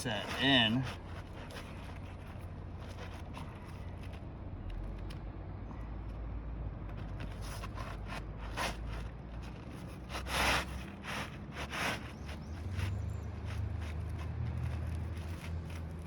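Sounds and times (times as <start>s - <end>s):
roof shingle scraping: 0.0s - 4.3s, 7.0s - 16.0s.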